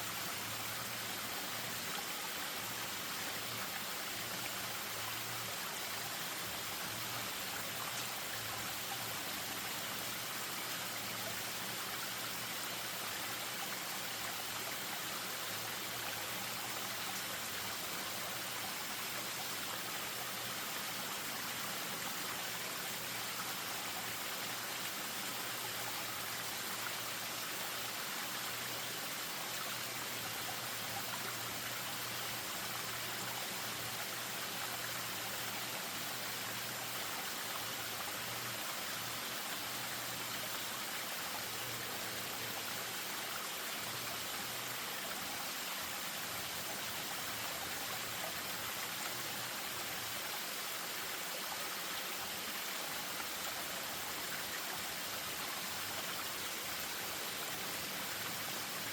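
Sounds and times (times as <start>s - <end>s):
stream over small waterfall: 0.0s - 58.9s.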